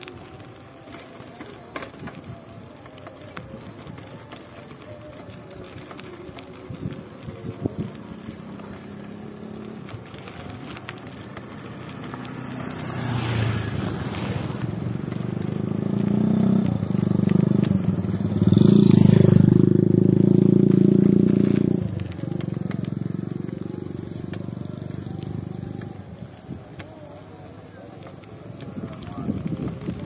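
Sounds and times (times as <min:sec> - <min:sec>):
motorcycle engines passing: 0:00.0 - 0:30.0.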